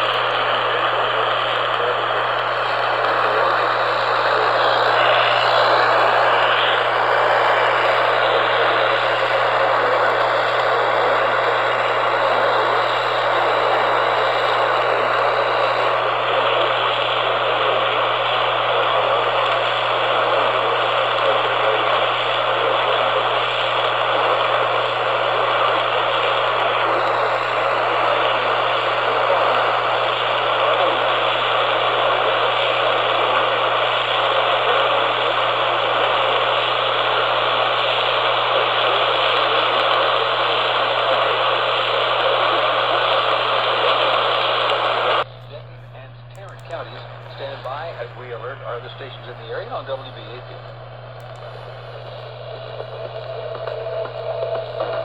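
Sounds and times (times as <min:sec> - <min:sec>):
low hum: 0:00.0 - 0:55.0
radio static hiss: 0:00.0 - 0:55.0.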